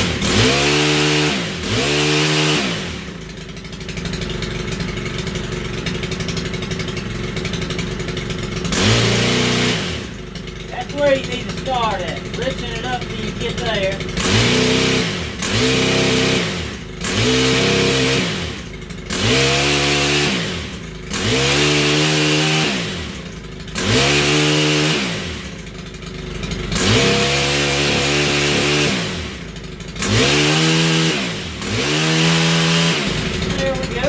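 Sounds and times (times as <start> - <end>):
pole saw engine revving: 0.0 - 34.0.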